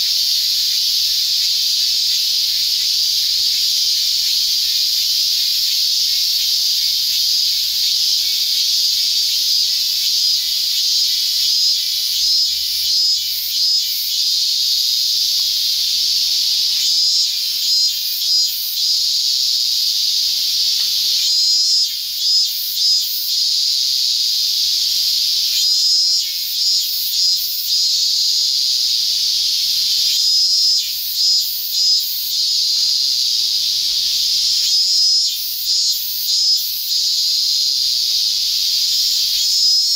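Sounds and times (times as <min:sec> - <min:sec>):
cicada chorus drone: 0:00.0 - 0:39.9.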